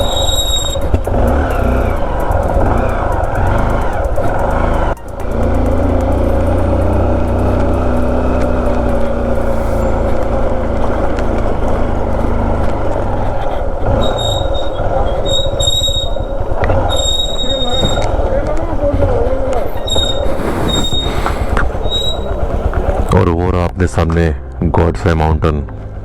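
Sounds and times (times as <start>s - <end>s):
thin high squeals: 0.0s - 23.1s
motorcycle engine running: 0.0s - 26.0s
road and wind rumble: 0.0s - 26.0s.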